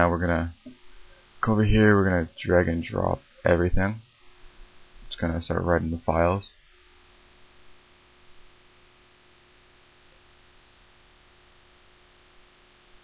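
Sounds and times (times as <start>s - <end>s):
low electrical hum: 0.0s - 13.0s
steady hiss: 0.0s - 13.0s
thin steady tone: 0.0s - 13.0s.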